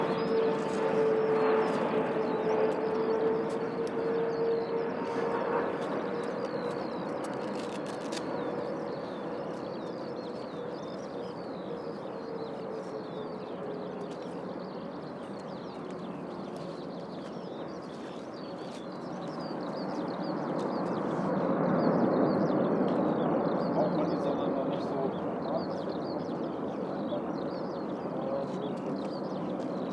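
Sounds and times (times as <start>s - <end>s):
birds chirping: 0.0s - 29.9s
jet engines whining and rushing: 0.0s - 29.9s.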